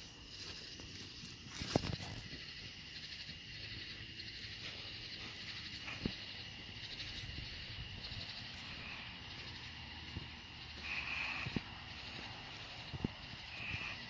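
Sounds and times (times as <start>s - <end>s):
night insects chirring: 0.0s - 14.0s.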